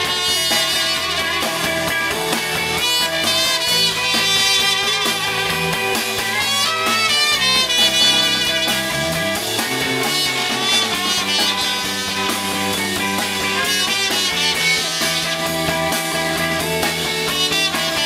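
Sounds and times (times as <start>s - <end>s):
live band playing instrumental: 0.0s - 18.0s.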